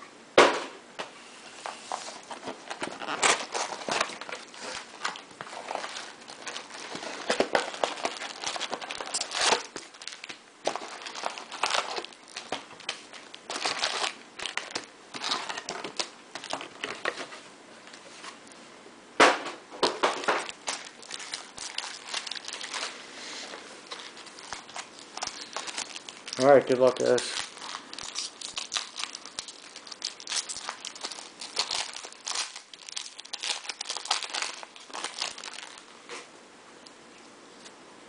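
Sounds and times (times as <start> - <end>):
foil packs crinkling: 1.9 - 17.3, 19.8 - 35.9.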